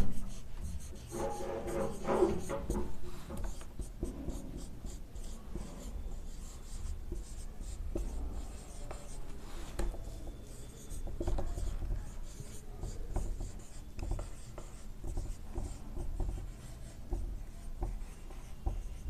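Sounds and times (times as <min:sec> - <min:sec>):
marker squeaking on whiteboard: 0:00.0 - 0:19.0.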